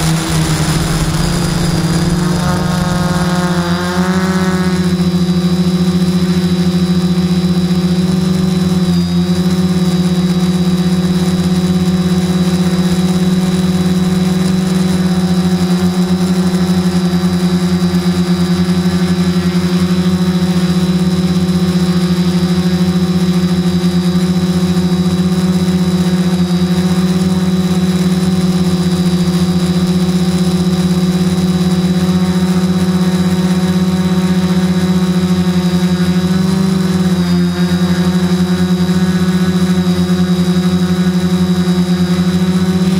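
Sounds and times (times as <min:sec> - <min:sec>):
drone propellers whirring: 0:00.0 - 0:07.1, 0:12.5 - 0:42.9.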